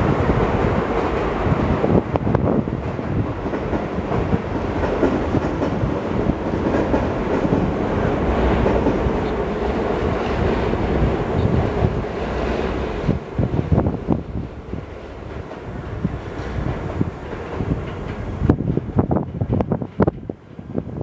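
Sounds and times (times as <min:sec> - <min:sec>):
train wheels rumbling on rails: 0:00.0 - 0:21.0
wind buffeting microphone: 0:00.0 - 0:21.0.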